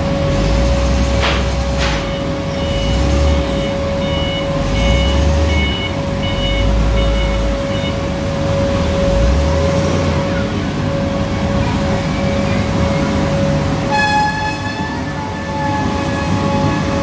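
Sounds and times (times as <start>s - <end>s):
forklift backup alarm beeping: 0.0s - 17.0s
low engine rumble: 0.0s - 17.0s
steady hum: 0.0s - 17.0s.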